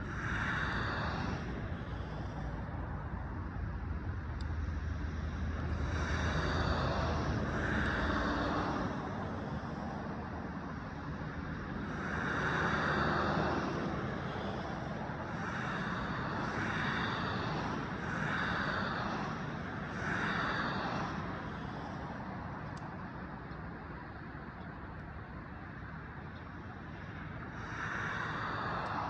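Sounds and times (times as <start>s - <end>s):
cars passing: 0.0s - 29.0s
steady low traffic rumble: 0.0s - 29.0s.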